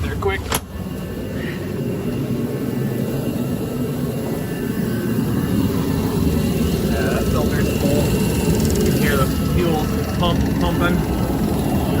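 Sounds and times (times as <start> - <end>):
heater fan and burner rushing: 0.0 - 12.0.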